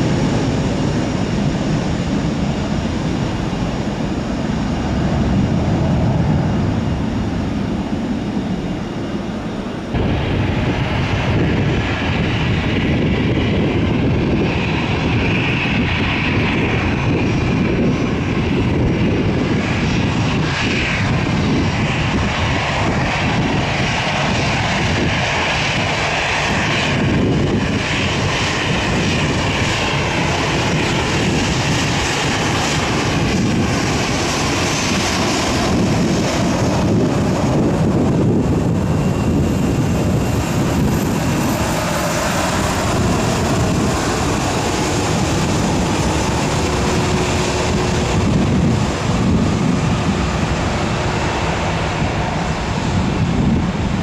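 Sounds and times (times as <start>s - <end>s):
jet airliner engines roaring: 0.0s - 54.0s.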